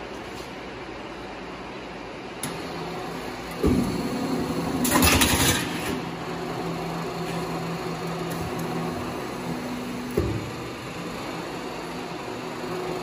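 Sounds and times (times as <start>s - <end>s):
roll forming machine humming: 1.2s - 13.0s.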